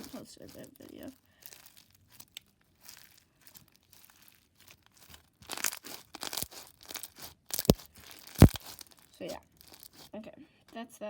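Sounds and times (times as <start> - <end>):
slime squishing and crackling: 0.0 - 10.2.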